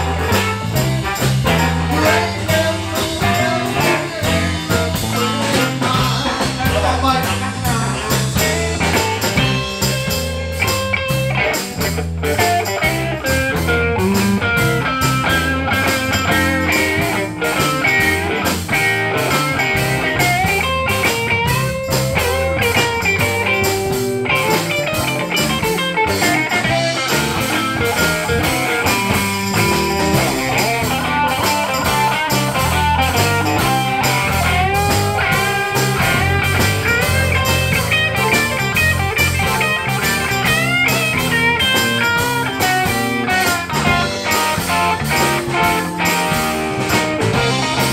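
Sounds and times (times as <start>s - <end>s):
bending guitar lead line: 0.0s - 47.9s
electric blues band playing: 0.0s - 47.9s.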